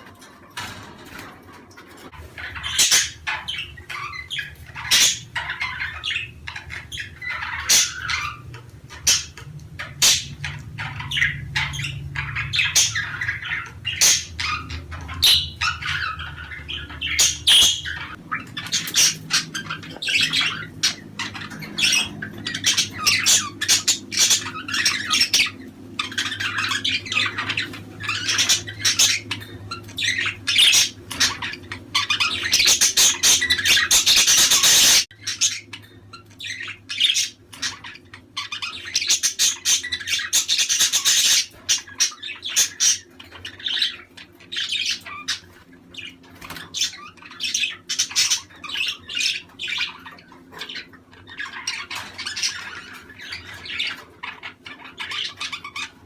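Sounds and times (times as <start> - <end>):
budgerigars chattering: 0.0 - 56.0
low background hum: 0.0 - 56.0.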